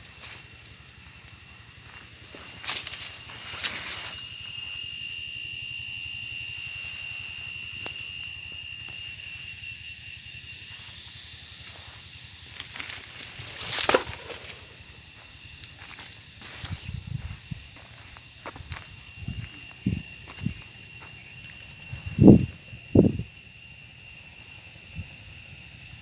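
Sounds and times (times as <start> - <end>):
steady high-pitched whine: 0.0 - 26.0.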